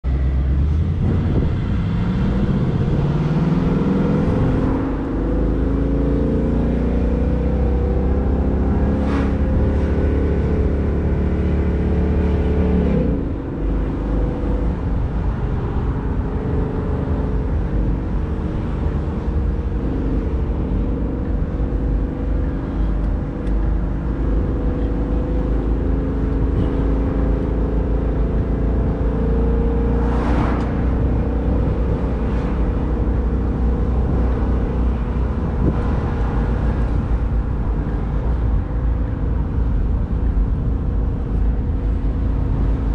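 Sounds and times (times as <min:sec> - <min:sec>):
car engine driving: 0:00.0 - 0:42.9
road noise: 0:00.0 - 0:42.9
wind noise: 0:00.4 - 0:42.9.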